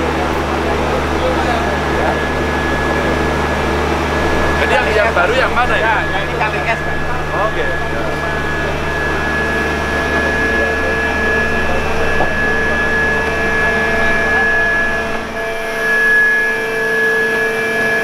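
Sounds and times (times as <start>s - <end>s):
deep machinery hum: 0.0s - 18.0s
pump machinery high whine: 0.0s - 18.0s.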